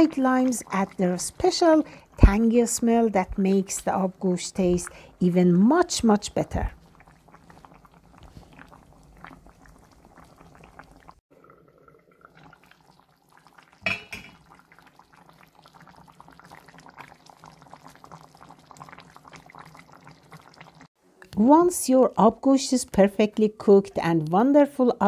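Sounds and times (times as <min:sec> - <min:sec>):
stew bubbling at a simmer: 0:00.0 - 0:21.4.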